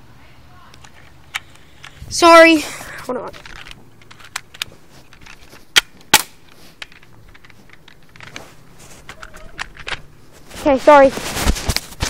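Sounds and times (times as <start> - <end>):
clothing rustling against phone: 1.5 - 5.7, 6.4 - 12.0.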